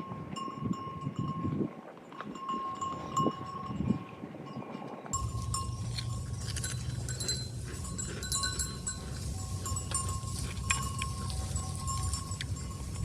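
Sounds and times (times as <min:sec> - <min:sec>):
small bells ringing: 0:00.0 - 0:01.6, 0:02.3 - 0:13.0.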